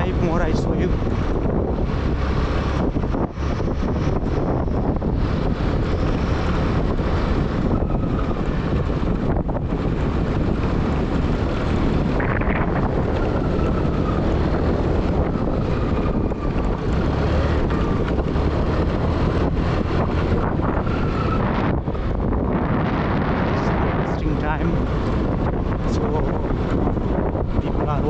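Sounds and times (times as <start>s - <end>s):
vehicle running noise: 0.0s - 28.0s
wind buffeting microphone: 0.0s - 28.0s.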